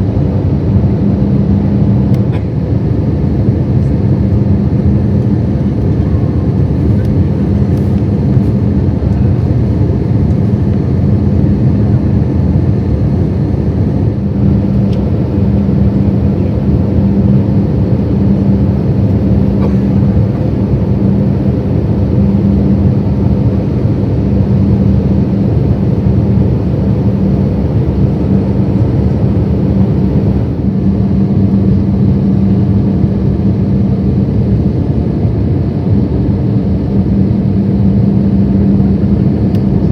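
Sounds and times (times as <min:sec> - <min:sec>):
airplane cabin engine rumble: 0:00.0 - 0:39.9
steady hum: 0:00.0 - 0:39.9.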